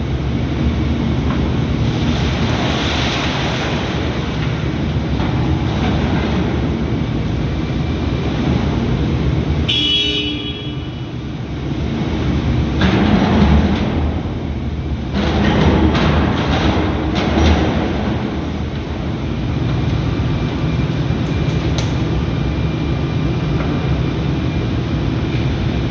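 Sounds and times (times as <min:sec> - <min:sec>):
excavator engine and hydraulics: 0:00.0 - 0:25.9.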